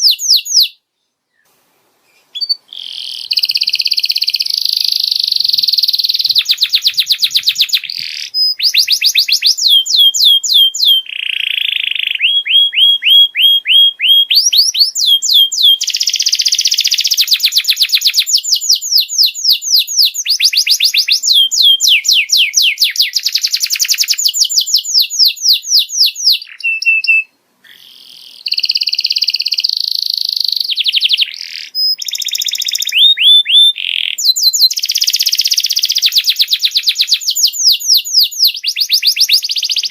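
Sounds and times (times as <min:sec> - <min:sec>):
canary singing trills: 0:00.0 - 0:01.5, 0:02.1 - 0:39.9.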